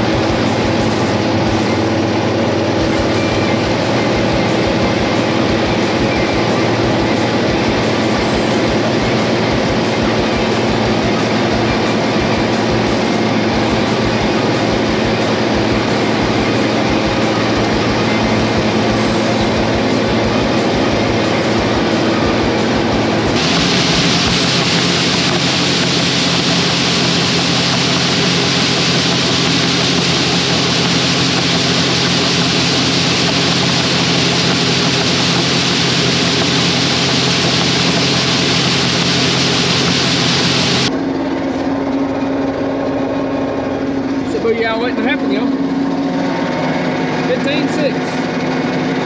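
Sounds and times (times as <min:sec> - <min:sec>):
loud even hiss: 0:00.0 - 0:40.9
machinery hum: 0:00.0 - 0:49.0.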